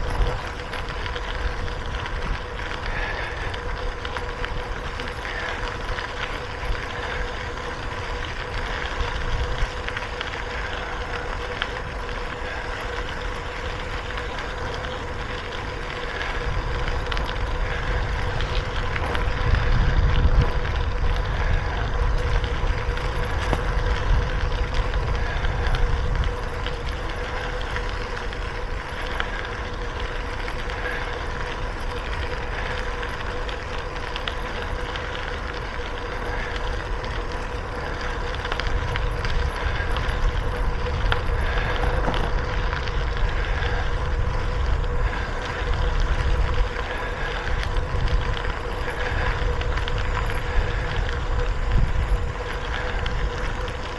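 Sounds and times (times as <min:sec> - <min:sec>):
bicycle road noise: 0:00.0 - 0:53.9
faint steady hum: 0:00.0 - 0:53.9
wind buffeting microphone: 0:00.0 - 0:53.9.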